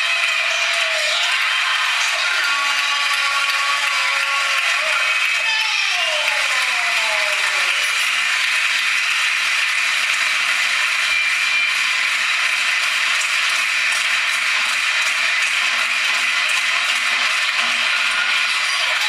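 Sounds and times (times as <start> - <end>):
crowd din in sports hall: 0.0 - 19.0.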